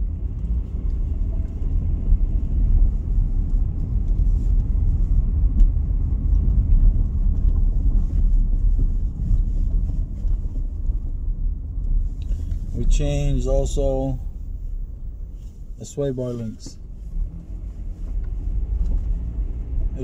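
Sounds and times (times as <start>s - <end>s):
road rumble inside car: 0.0s - 20.0s.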